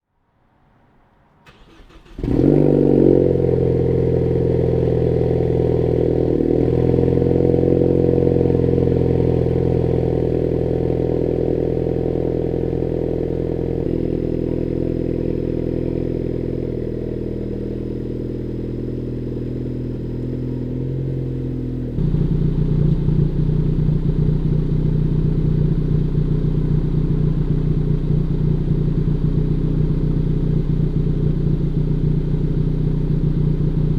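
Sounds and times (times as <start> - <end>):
car engine cranking and idling: 1.4 - 33.9.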